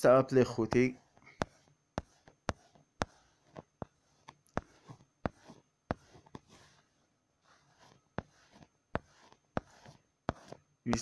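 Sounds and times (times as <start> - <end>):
faint rubbing on screen: 0.3 - 11.0.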